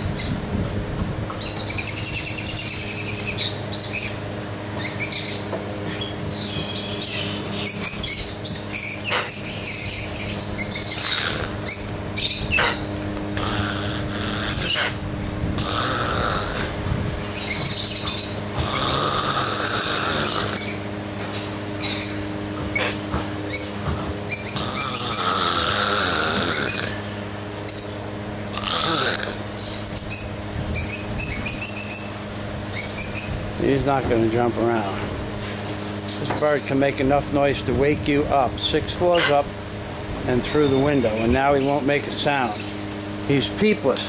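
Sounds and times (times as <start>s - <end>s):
birds chirping: 0.0s - 44.0s
steady low hum: 0.0s - 44.0s.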